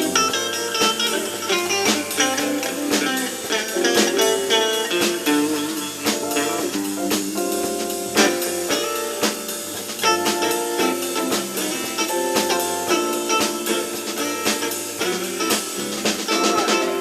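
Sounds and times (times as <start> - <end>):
guitar: 0.0 - 17.0
live bluesy band music: 0.0 - 17.0.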